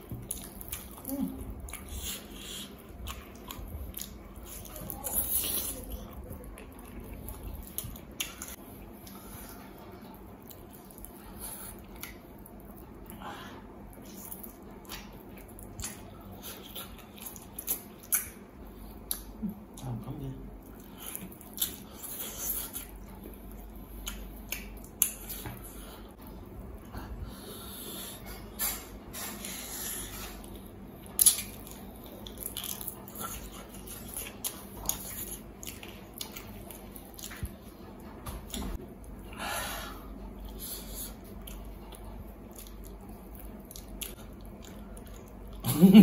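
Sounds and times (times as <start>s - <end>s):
man chewing meat: 0.0s - 46.0s.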